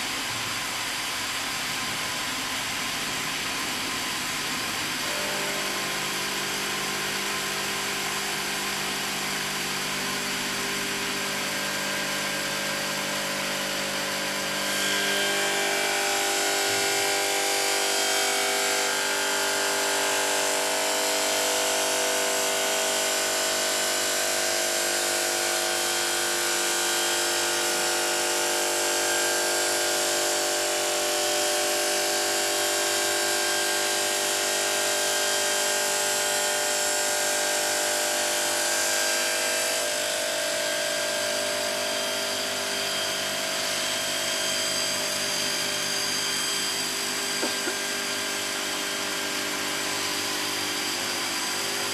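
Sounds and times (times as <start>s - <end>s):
saw cutting stone slab: 0.1s - 51.9s.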